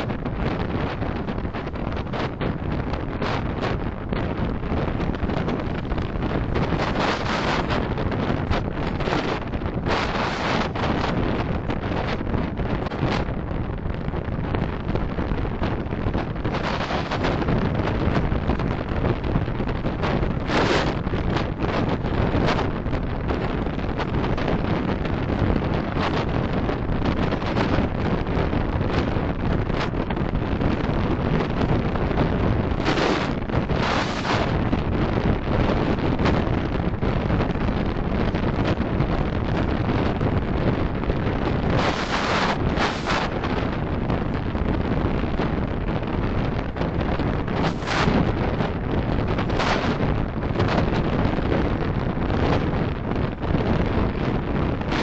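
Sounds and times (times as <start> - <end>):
wind and road noise: 0.0 - 55.0
wind buffeting microphone: 0.0 - 55.0.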